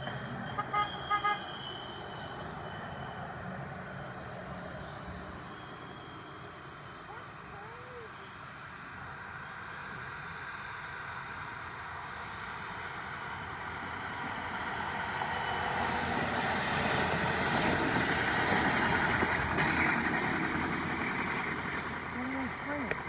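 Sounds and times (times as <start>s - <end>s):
train passing: 0.0s - 23.0s
wheel and rail noise: 0.0s - 23.0s.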